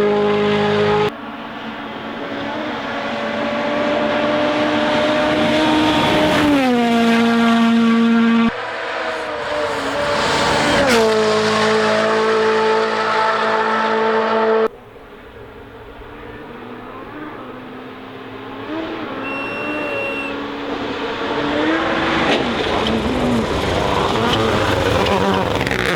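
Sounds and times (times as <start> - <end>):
rally car engines passing: 0.0 - 25.9.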